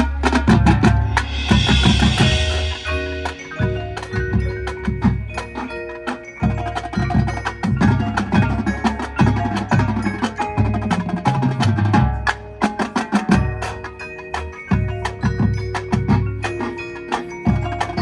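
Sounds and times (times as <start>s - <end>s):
drums: 0.0s - 18.0s
mallet percussion: 0.0s - 18.0s
marching showband playing: 0.0s - 18.0s.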